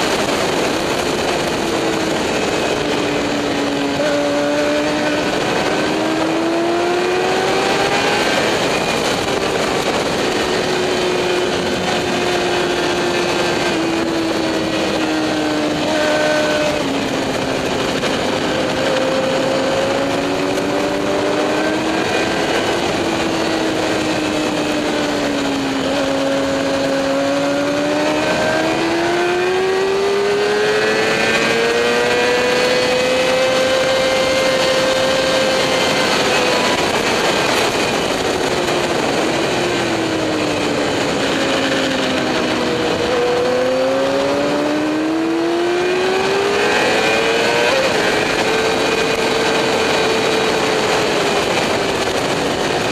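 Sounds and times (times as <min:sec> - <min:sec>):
motorcycle engine at speed: 0:00.0 - 0:52.9
wind rush: 0:00.0 - 0:52.9.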